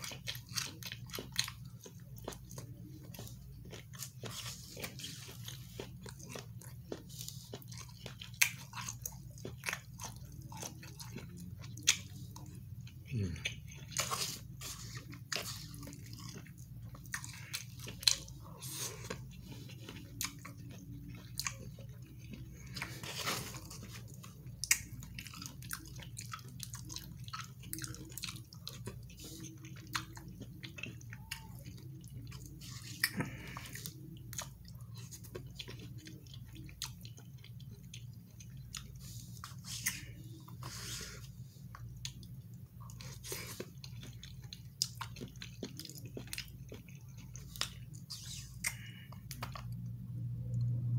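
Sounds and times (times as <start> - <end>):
person chewing food: 0.0 - 50.9
steady low hum: 0.0 - 50.9.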